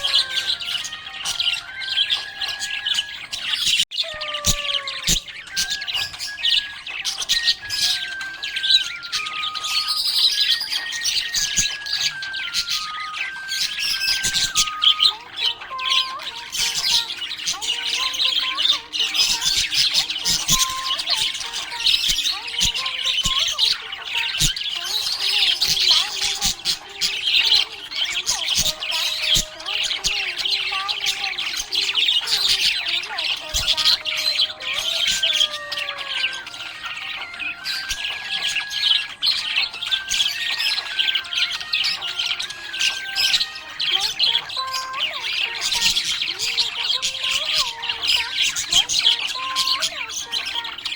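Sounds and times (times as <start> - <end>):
budgerigars chirping and chattering: 0.0 - 50.9.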